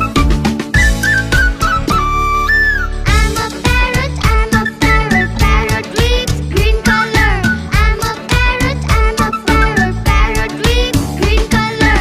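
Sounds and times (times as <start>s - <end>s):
upbeat music with fast beat: 0.0s - 12.0s.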